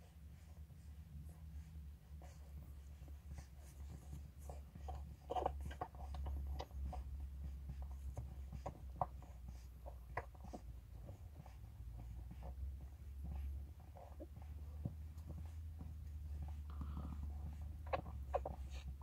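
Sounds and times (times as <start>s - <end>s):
low steady hum: 0.0s - 19.0s
puppies suckling: 0.0s - 19.0s.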